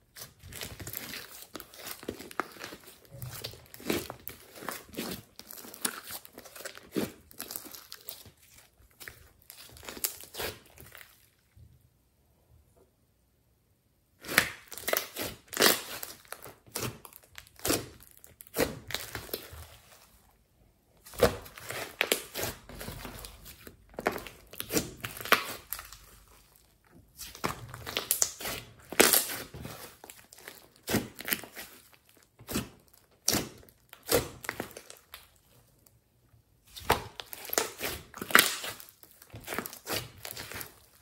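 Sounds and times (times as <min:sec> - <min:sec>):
hands kneading sticky slime: 0:00.0 - 0:11.6, 0:14.2 - 0:41.0.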